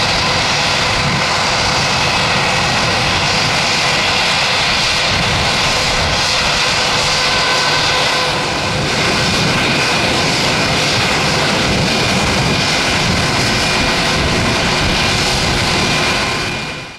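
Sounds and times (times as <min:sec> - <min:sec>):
jet engines running: 0:00.0 - 0:16.9.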